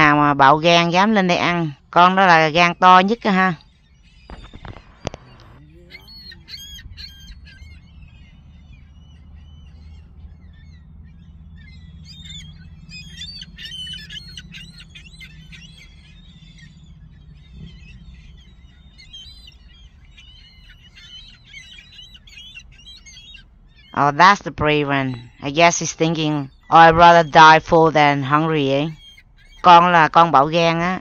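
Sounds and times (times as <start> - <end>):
gulls calling: 0.0 - 31.0
steady low rumble: 0.0 - 31.0.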